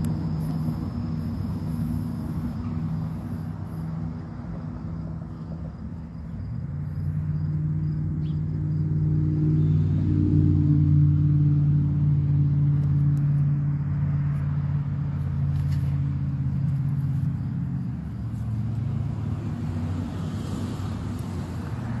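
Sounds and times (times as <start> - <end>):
engine running with low hum: 0.0 - 22.0.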